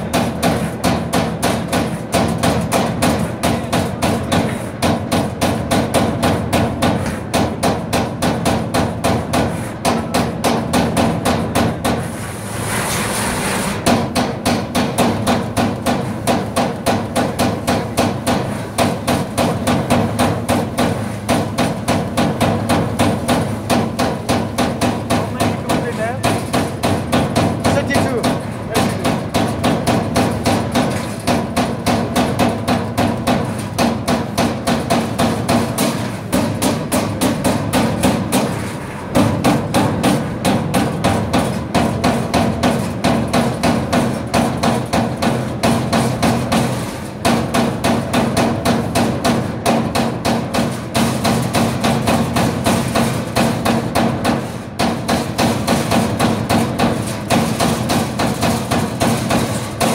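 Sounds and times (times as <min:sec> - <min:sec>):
punch press punching sheet metal: 0:00.0 - 0:59.9.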